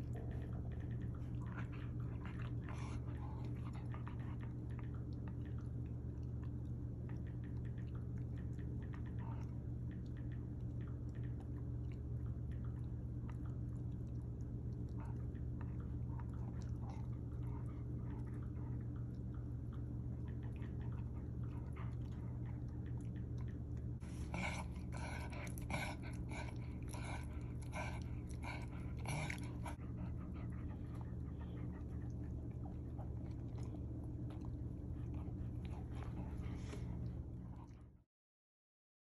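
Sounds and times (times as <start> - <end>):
dog chewing and gnawing: 0.0 - 37.8
steady low hum: 0.0 - 38.1.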